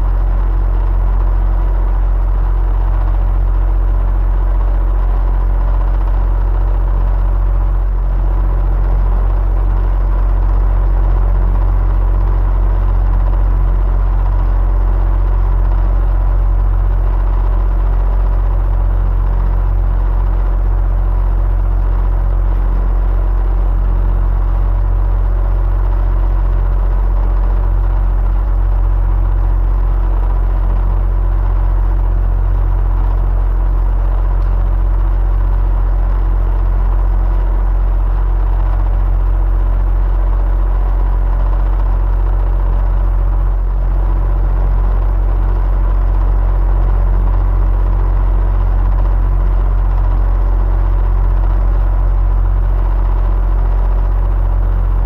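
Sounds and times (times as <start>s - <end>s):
electric fan humming: 0.0s - 49.2s, 53.0s - 55.0s.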